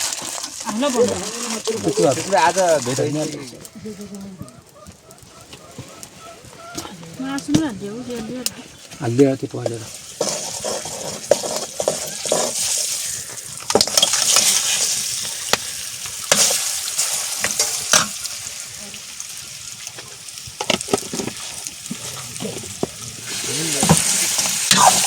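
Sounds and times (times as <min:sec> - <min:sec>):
utensil scraping a pan: 0:00.0 - 0:03.7, 0:05.4 - 0:18.2, 0:20.0 - 0:25.0
food sizzling in a hot pan: 0:00.0 - 0:04.3, 0:07.2 - 0:25.0.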